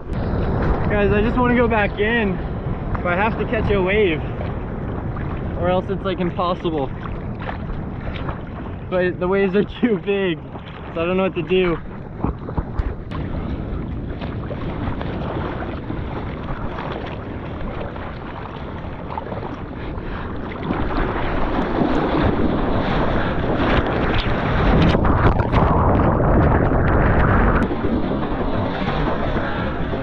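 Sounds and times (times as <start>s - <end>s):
seawater sloshing and rushing: 0.0s - 30.0s
wind on microphone: 0.0s - 30.0s
water splashing against camera: 2.8s - 30.0s.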